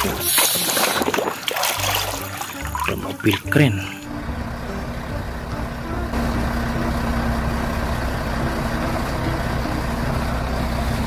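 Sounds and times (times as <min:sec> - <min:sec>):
truck engine rumbling: 0:00.0 - 0:11.0
crane hum: 0:01.8 - 0:11.0.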